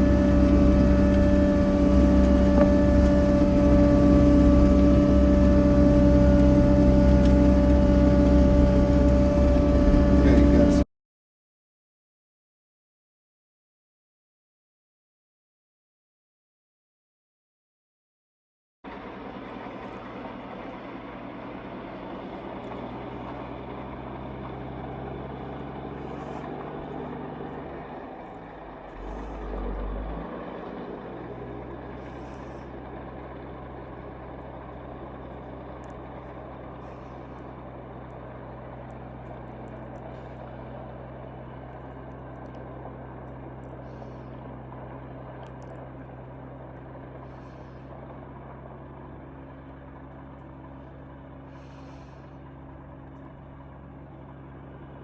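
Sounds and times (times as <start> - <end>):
vehicle engine running: 0.0 - 10.8, 18.9 - 55.0.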